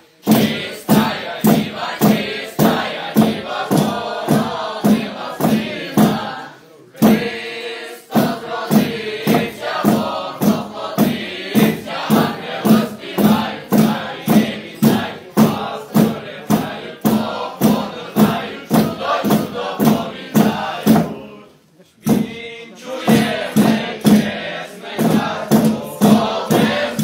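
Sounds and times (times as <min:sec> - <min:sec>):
group singing a carol: 0:00.0 - 0:27.0
sharp thumping beat: 0:00.2 - 0:21.4, 0:22.0 - 0:27.0.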